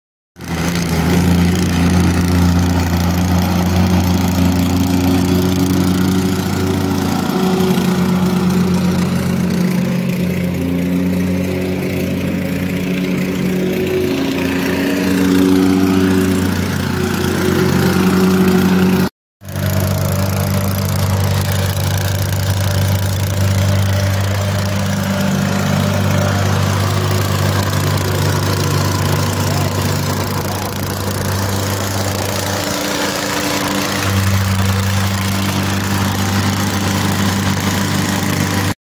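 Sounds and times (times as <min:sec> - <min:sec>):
plate compactor engine running: 0:00.4 - 0:38.8.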